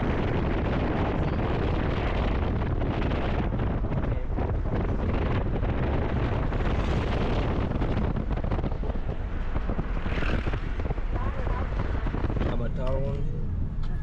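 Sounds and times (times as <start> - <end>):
car road noise: 0.0 - 14.0
wind buffeting microphone: 0.0 - 14.0.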